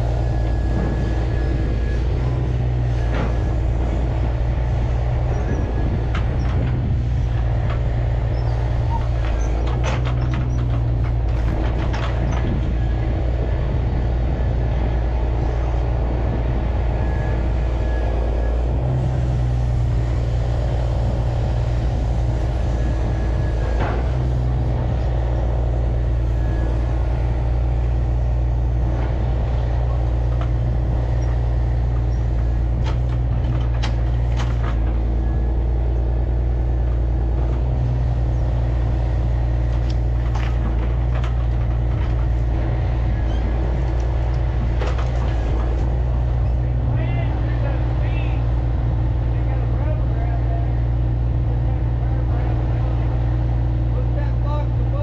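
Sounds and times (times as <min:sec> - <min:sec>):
diesel truck engine droning: 0:00.0 - 0:55.0.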